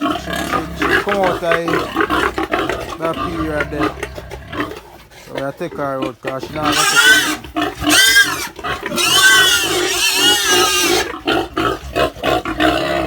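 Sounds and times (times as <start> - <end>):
pig squealing: 0.0 - 13.0.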